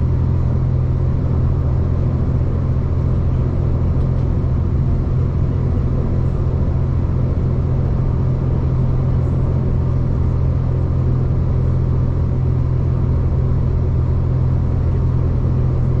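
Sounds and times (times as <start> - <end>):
passenger train rumbling: 0.0 - 16.0.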